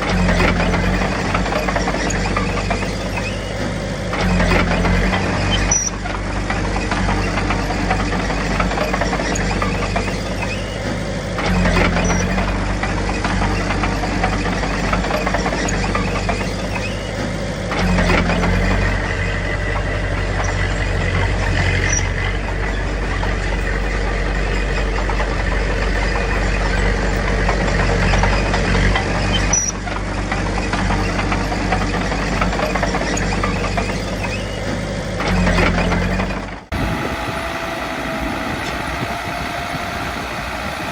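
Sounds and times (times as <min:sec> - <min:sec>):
high squeaks: 0:00.0 - 0:06.2, 0:06.9 - 0:40.9
diesel engine running: 0:00.0 - 0:40.9.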